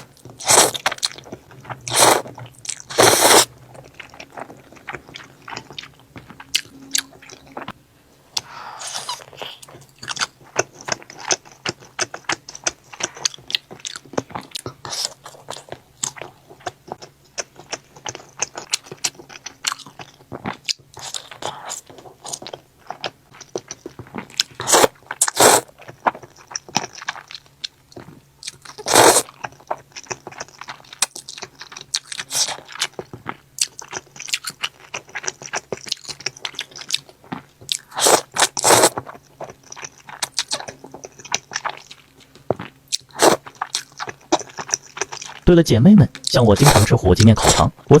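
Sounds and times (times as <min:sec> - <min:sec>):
person chewing noodles: 0:00.0 - 0:45.4.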